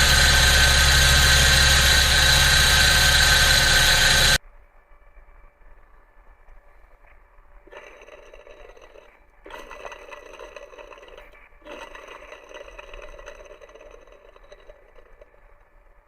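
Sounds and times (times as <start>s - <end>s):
engine scraping whir with whine: 0.0s - 4.4s, 5.3s - 16.0s.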